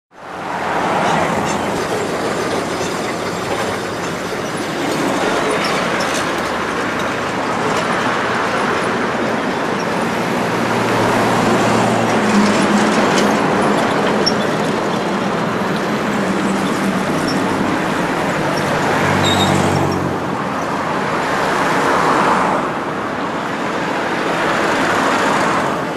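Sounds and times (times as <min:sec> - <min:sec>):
vehicle noise roaring: 0:00.1 - 0:25.9.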